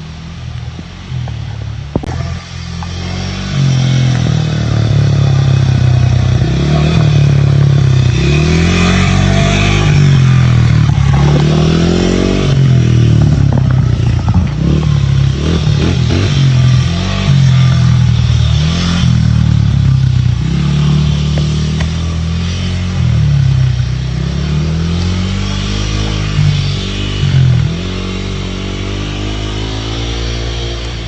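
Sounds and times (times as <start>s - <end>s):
dirt bike engine revving: 2.1s - 31.0s.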